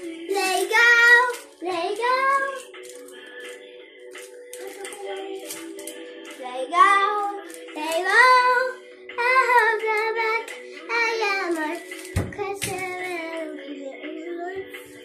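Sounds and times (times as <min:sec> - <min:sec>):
child singing: 0:00.0 - 0:03.5, 0:04.5 - 0:15.0.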